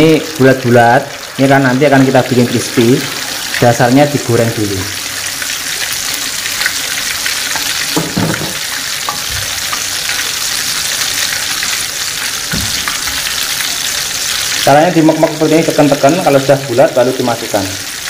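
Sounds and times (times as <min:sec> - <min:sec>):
oil sizzling in deep frying: 0:00.0 - 0:18.0.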